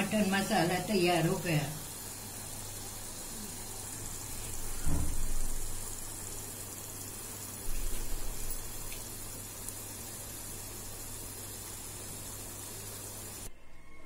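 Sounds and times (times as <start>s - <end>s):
gravy sizzling and bubbling in oil: 0.0s - 13.5s.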